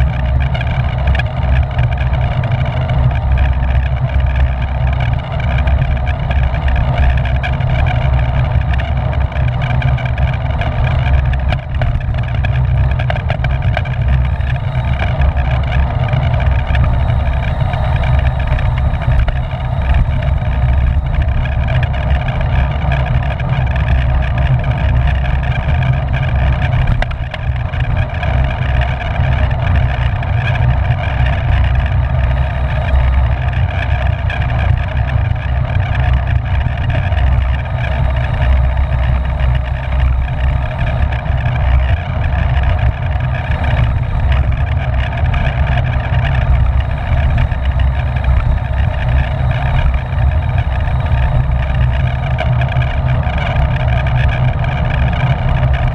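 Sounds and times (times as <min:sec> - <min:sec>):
wind rumbling on microphone: 0:00.0 - 0:55.9.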